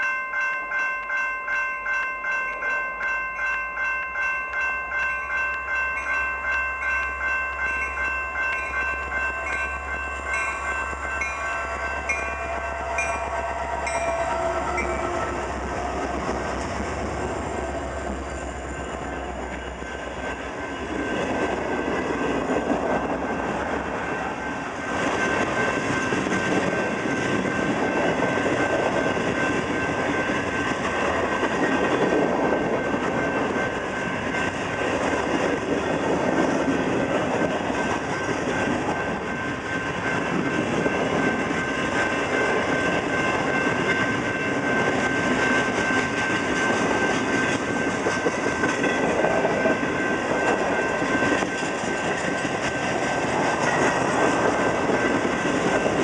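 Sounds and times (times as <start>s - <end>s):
freight train rumble and clatter: 0.0s - 56.0s.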